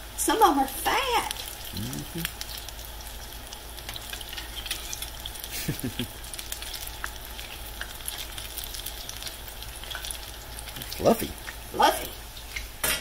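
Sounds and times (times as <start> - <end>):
deep-frying oil sizzling: 0.0 - 13.0.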